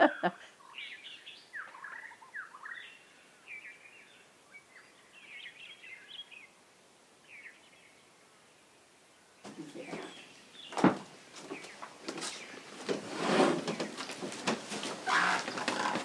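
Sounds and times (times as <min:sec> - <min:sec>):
small birds chirping: 0:00.0 - 0:06.6, 0:07.2 - 0:12.9, 0:13.6 - 0:16.0.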